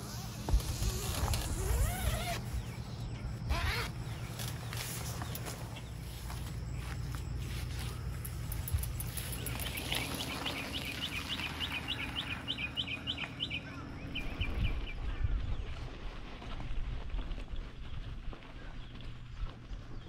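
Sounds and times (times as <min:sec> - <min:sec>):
songbird singing: 0:00.0 - 0:16.0, 0:17.6 - 0:20.0.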